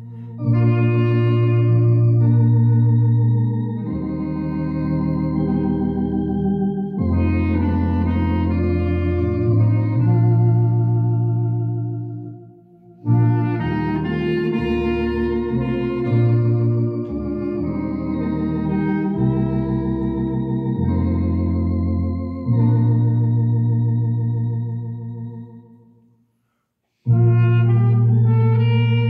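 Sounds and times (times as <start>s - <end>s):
electronic organ: 0.0s - 26.0s, 27.0s - 29.0s
clarinet: 0.0s - 29.0s.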